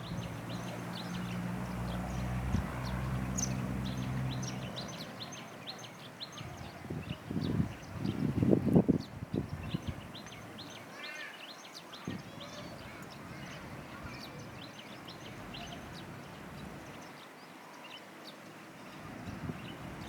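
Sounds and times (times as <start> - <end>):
outdoor background: 0.0 - 20.0
wild birds chirping: 0.0 - 20.0.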